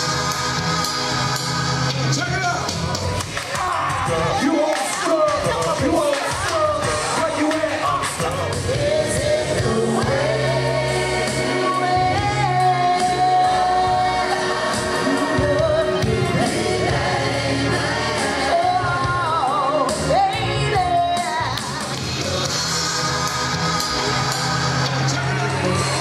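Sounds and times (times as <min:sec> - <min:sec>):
instrumental backing with bass: 0:00.0 - 0:04.5, 0:05.3 - 0:26.0
vocal group singing: 0:00.0 - 0:26.0.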